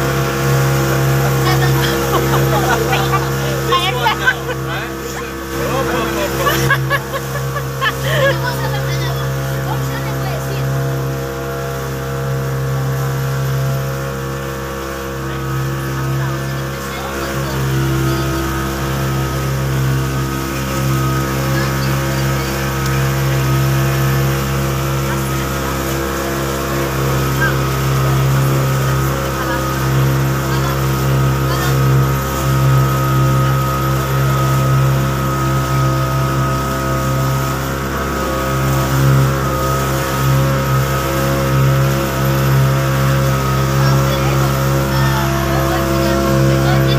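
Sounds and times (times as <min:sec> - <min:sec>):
speedboat engine drone: 0:00.0 - 0:46.9
water rushing along hull: 0:00.0 - 0:46.9.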